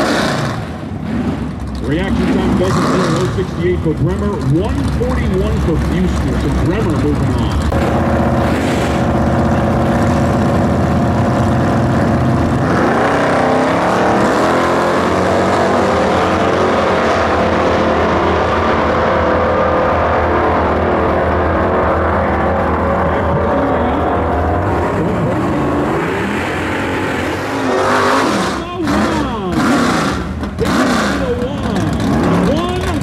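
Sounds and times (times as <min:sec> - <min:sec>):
cars launching at full throttle: 0:00.0 - 0:33.0
engines revving: 0:00.0 - 0:33.0.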